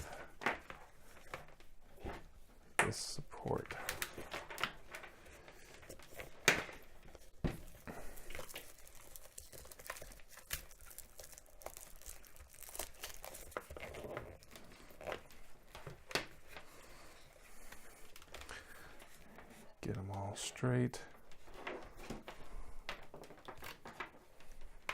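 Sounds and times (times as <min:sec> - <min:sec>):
wires rustling: 0:00.0 - 0:20.4.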